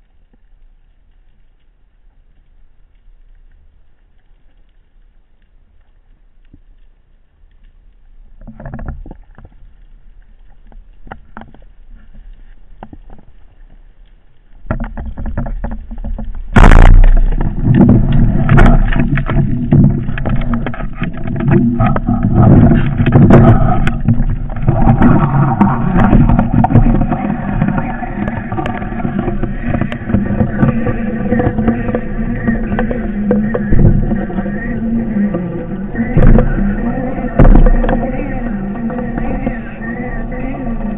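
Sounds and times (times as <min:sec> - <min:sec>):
faint clicks: 0:00.0 - 0:40.9
underwater churning noise: 0:07.0 - 0:40.9.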